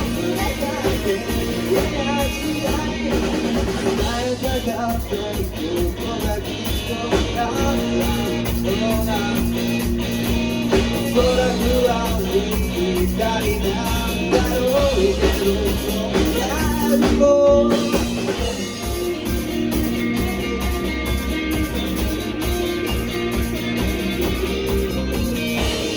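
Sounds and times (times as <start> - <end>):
rock song with vocals: 0.0 - 25.9.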